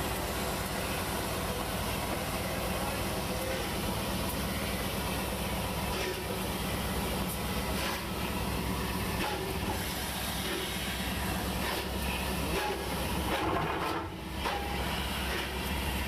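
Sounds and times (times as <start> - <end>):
train rumble and hiss: 0.0 - 16.0.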